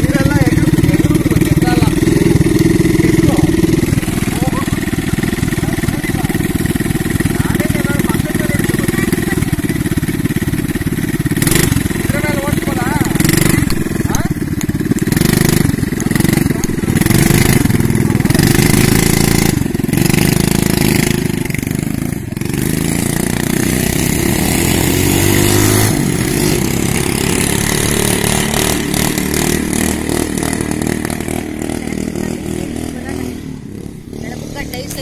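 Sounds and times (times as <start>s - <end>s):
quad bike engine revving: 0.0s - 35.0s.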